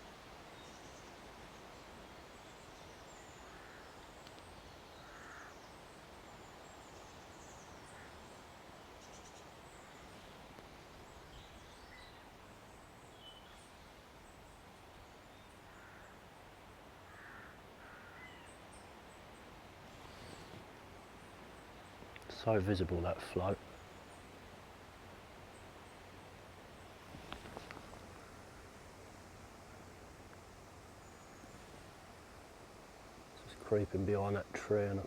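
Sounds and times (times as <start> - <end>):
low bird calls: 0.0 - 16.3, 17.0 - 24.4, 25.5 - 32.4
steady low hiss: 0.0 - 35.0.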